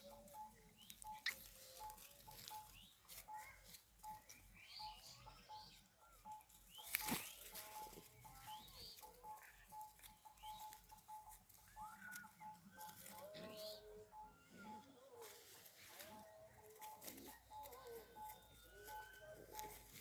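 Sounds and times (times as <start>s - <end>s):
faint bird calls: 0.0s - 20.0s.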